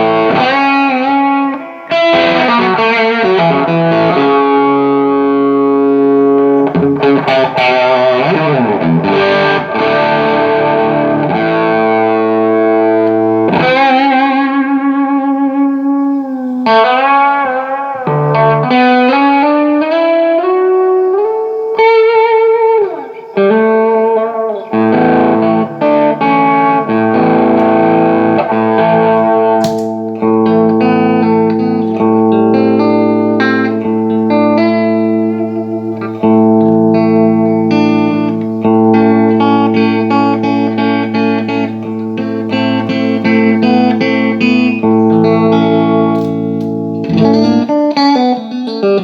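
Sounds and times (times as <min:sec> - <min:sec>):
electric guitar playing: 0:00.0 - 0:49.0.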